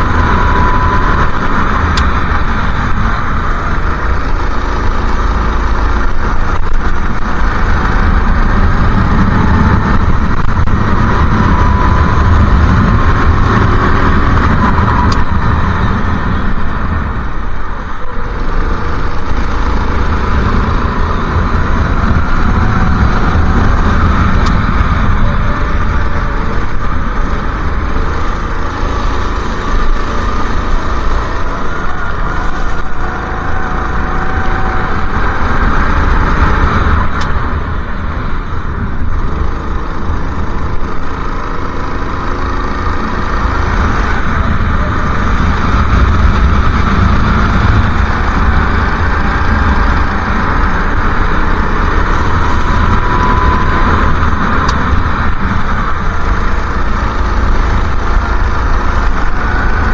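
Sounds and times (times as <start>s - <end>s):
go-kart engine revving: 0.0s - 59.9s
heavy low rumble: 0.0s - 59.9s.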